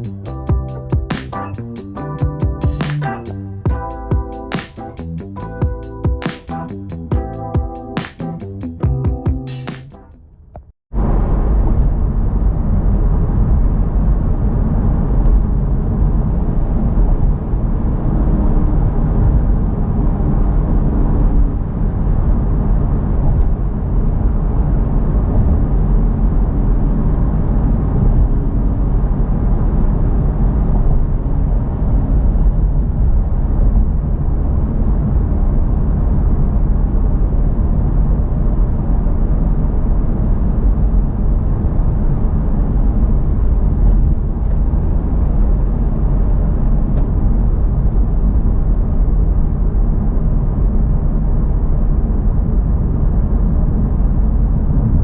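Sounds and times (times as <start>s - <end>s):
car road and engine rumble: 10.2s - 55.0s.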